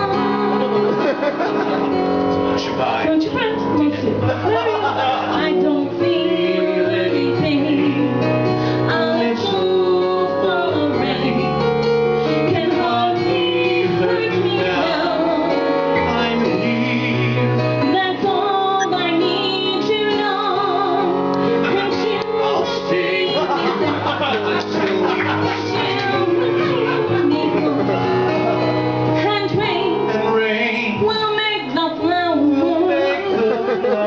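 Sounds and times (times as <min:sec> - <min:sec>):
woman singing: 0:00.0 - 0:00.9, 0:03.0 - 0:17.1, 0:17.7 - 0:24.1, 0:25.5 - 0:28.2, 0:29.1 - 0:30.1, 0:30.7 - 0:34.0
sustained musical accompaniment: 0:00.0 - 0:34.0.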